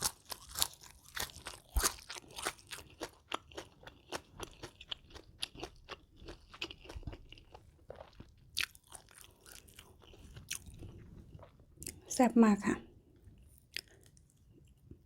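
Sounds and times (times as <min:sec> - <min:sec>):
chewing crisp food: 0:00.0 - 0:12.1, 0:13.1 - 0:15.0.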